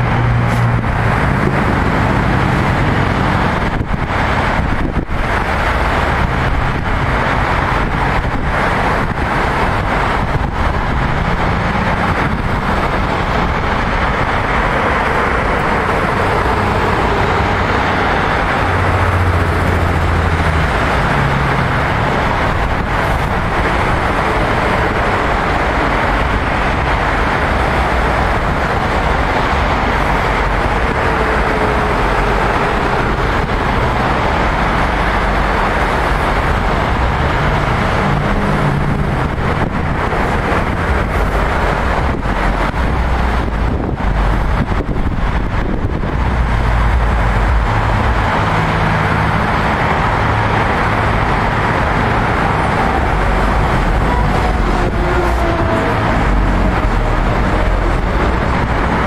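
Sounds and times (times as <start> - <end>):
heavy vehicle hum: 0.0 - 59.0
road traffic rushing: 0.0 - 59.0.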